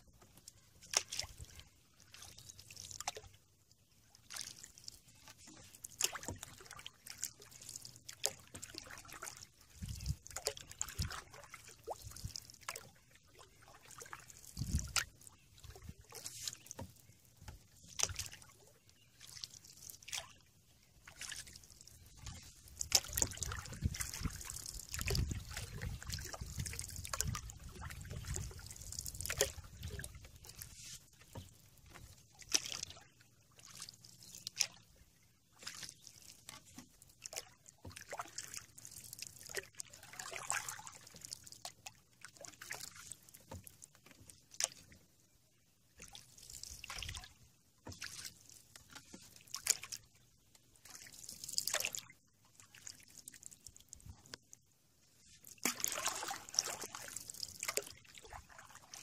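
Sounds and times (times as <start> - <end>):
paddle swishing through water: 0.0 - 59.0
water dripping off paddle: 0.1 - 3.4, 4.2 - 20.4, 21.0 - 34.8, 35.6 - 45.0, 46.0 - 54.5, 55.4 - 59.0.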